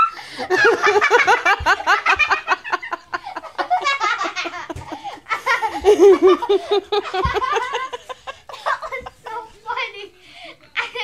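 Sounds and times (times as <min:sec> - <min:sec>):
children giggling: 0:00.0 - 0:09.5.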